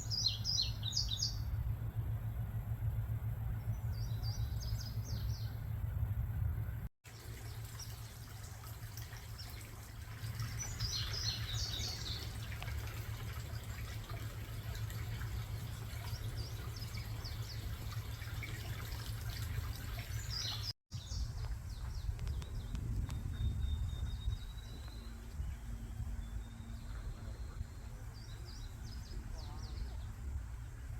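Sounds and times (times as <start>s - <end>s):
steady low rumble: 0.0s - 7.5s, 8.3s - 30.9s
birds chirping: 0.0s - 30.9s.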